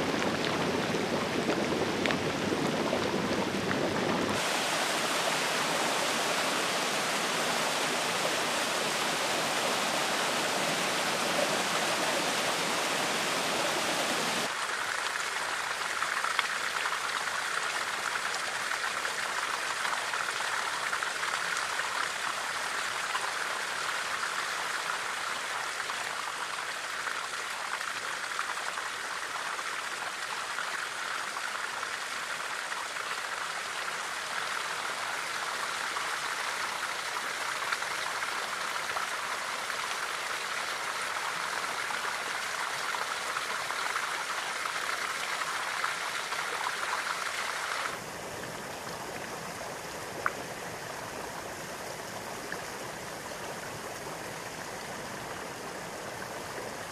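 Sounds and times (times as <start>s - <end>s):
water splashing into a stream: 0.0s - 56.9s.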